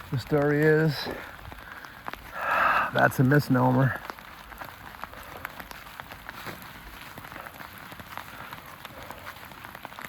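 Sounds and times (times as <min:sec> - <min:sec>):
raindrops ticking: 0:00.0 - 0:10.0
steady rain hiss: 0:00.0 - 0:10.0.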